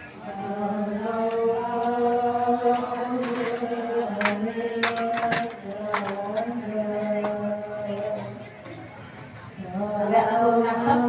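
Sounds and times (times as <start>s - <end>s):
voices chanting held notes: 0.0s - 11.0s.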